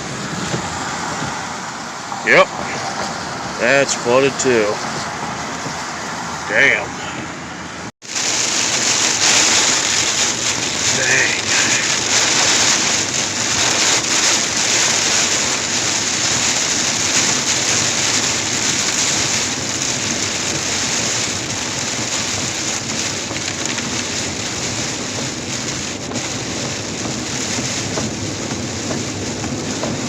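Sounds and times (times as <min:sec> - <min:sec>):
car driving through water: 0:00.0 - 0:30.0.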